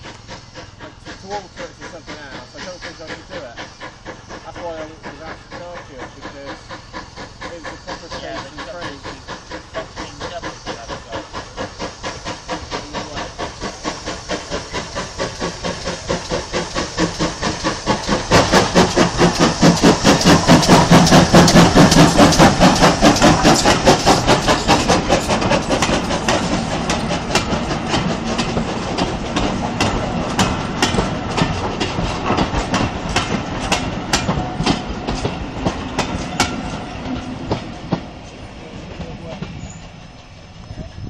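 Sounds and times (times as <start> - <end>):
wheels clicking over rail joints: 0.0 - 40.8
steam hiss: 0.0 - 41.0
steam locomotive chuffing: 0.0 - 41.0.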